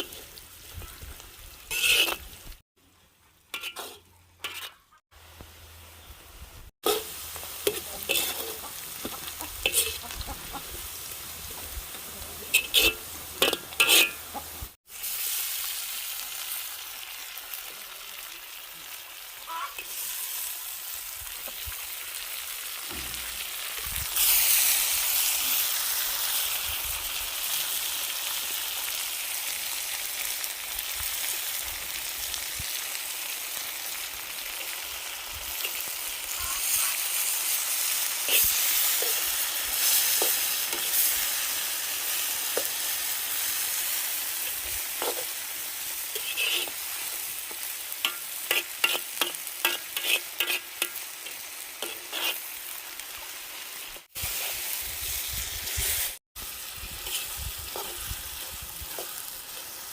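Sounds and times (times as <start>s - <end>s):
food sizzling in a pot: 0.0s - 2.6s, 3.4s - 59.9s.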